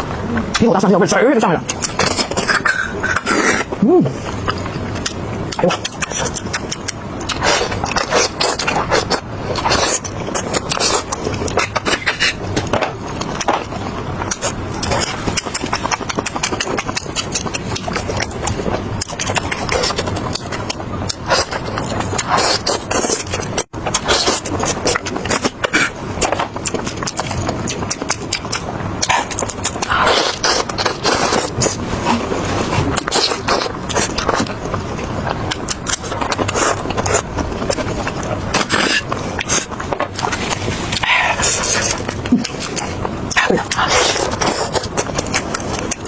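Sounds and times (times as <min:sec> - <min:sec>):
chewing and crunching food: 0:00.0 - 0:46.0
wet mouth noises: 0:01.6 - 0:46.0.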